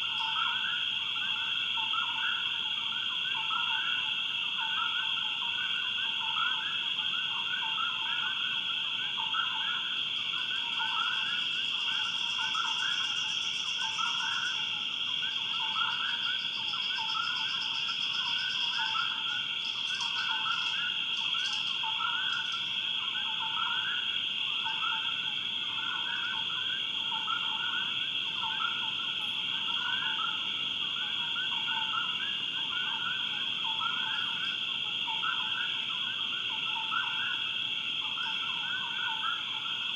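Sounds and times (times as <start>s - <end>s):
frogs chirping: 0.0s - 39.9s
high insect drone: 0.0s - 39.9s.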